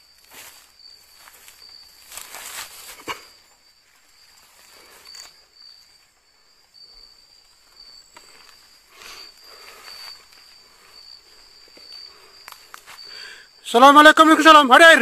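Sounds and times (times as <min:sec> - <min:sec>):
footsteps through undergrowth: 0:00.0 - 0:13.1
high-pitched insect trill: 0:00.0 - 0:15.0.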